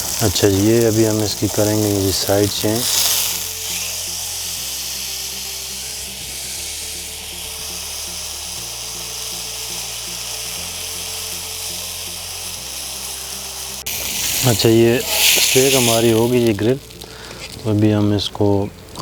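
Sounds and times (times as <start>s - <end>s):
background music with bass line: 0.0s - 19.0s
meat sizzling in a grill pan: 0.0s - 19.0s.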